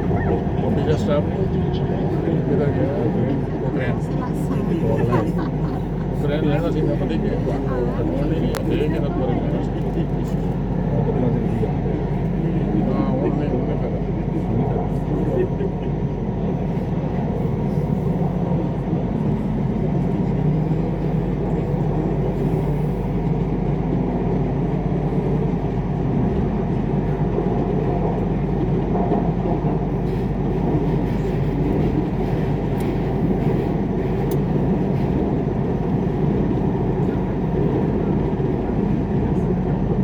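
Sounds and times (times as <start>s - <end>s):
train rumbling inside carriage: 0.0s - 40.0s.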